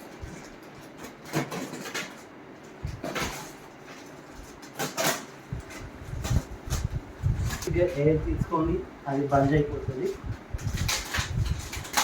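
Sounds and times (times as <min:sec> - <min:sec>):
plastic wrapping rustling: 0:00.0 - 0:12.0.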